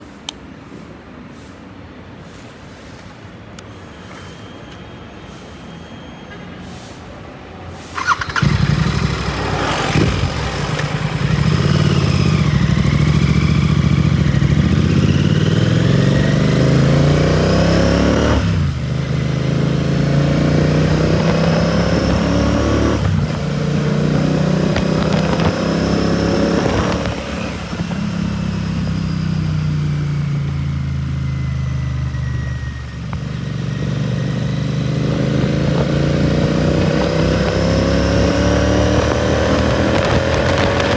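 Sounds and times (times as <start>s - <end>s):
motorcycle engine accelerating: 8.0s - 40.9s.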